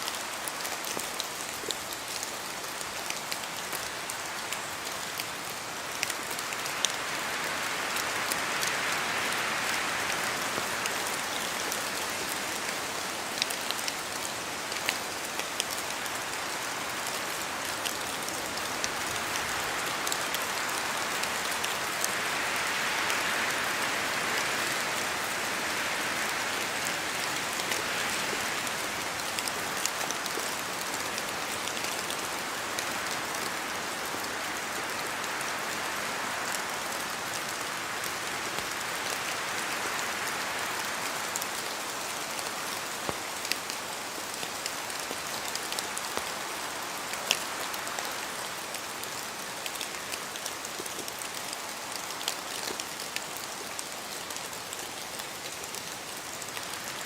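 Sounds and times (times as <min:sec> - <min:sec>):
rain falling through trees: 0:00.0 - 0:57.0
wind: 0:00.0 - 0:57.0.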